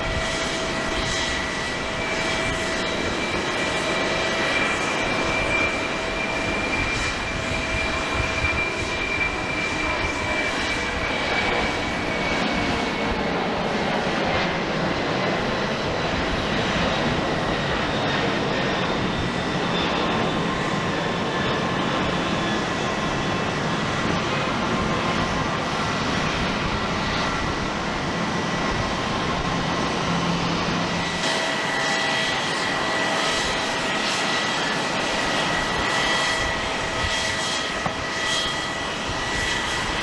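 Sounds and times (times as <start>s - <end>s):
jet engines roaring and whining: 0.0s - 40.0s.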